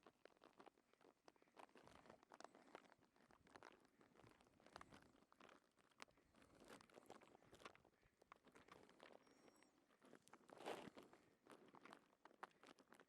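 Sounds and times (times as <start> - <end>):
faint crackles and rustles: 0.0 - 13.0.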